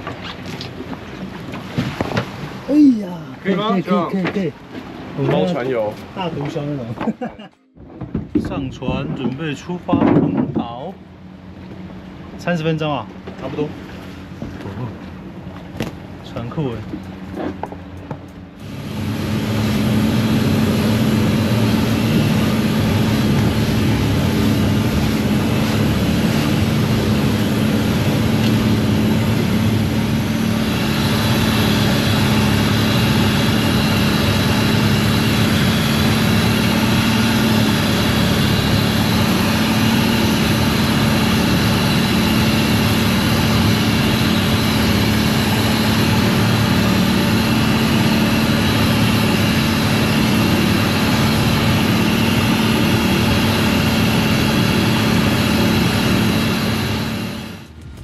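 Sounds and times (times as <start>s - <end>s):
boat engine drone: 0.0s - 58.0s
high engine whine: 0.0s - 58.0s.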